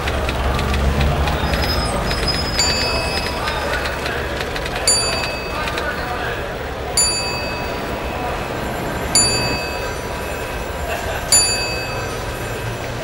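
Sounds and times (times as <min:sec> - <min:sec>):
bell ringing: 0:01.5 - 0:13.0.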